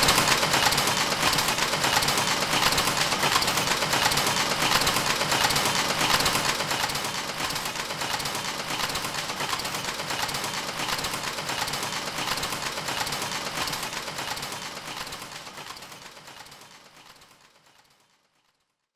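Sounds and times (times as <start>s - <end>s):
rapid machinery clattering: 0.0s - 17.4s.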